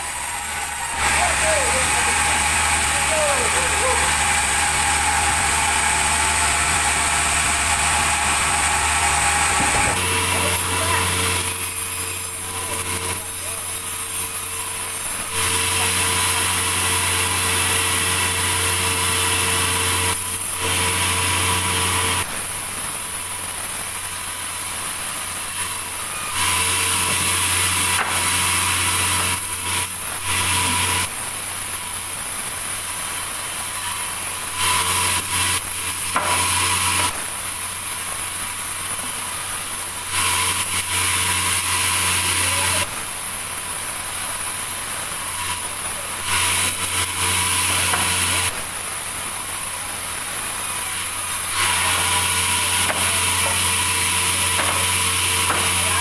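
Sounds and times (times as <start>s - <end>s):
sawmill saw cutting log: 0.0s - 56.0s.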